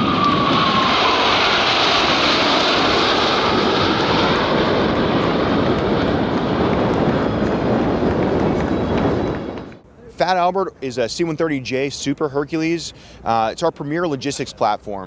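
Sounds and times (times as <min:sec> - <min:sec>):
aircraft engine roar and whine: 0:00.0 - 0:15.0.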